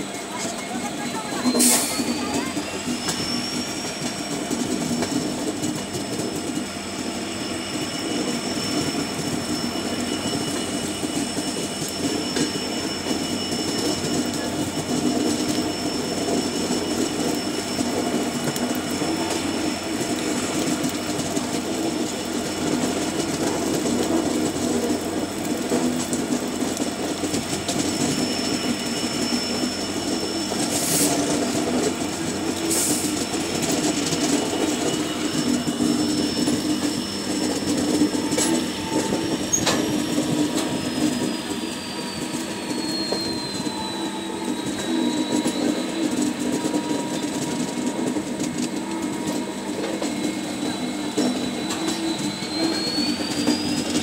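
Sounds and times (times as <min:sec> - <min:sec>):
train wheel flanges squealing: 0:00.0 - 0:54.0
train wheels clattering on track: 0:00.0 - 0:54.0.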